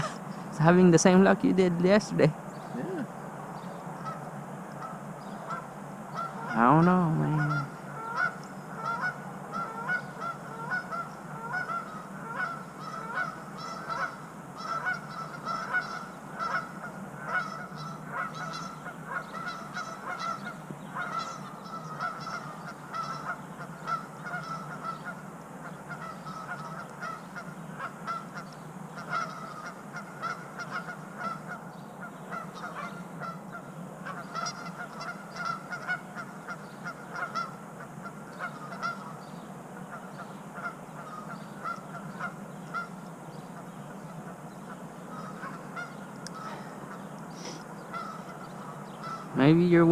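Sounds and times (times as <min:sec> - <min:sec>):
geese honking: 0:00.0 - 0:02.3, 0:03.6 - 0:49.9
steady low hum: 0:00.0 - 0:49.9.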